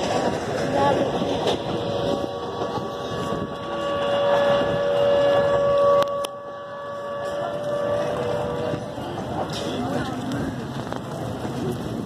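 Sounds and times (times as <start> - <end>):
high whine: 0.0 - 11.1
train rumble: 0.0 - 12.0
wind on the microphone: 0.0 - 12.0.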